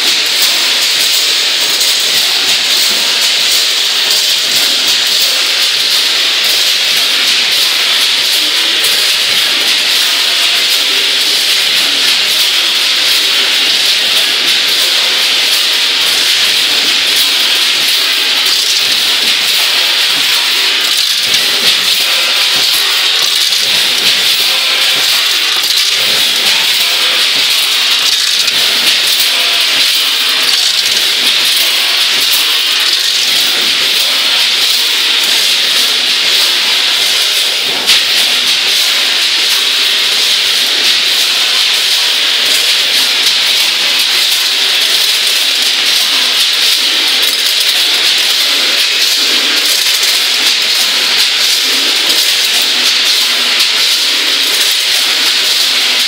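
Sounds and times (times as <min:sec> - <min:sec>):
packing line machinery hissing: 0:00.0 - 0:56.0.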